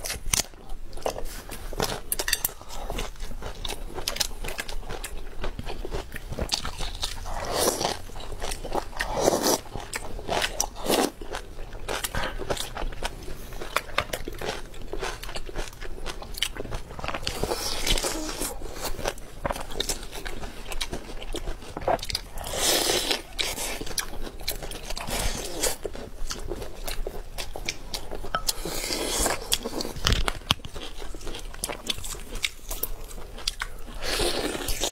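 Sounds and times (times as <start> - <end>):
people chewing food: 0.0 - 34.9.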